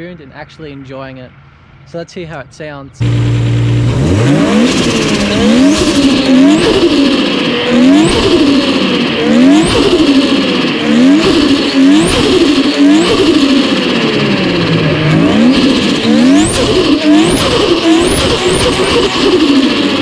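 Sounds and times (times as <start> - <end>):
muffled turbo flutter: 3.0 - 20.0
turbocharged engine revving: 3.0 - 20.0.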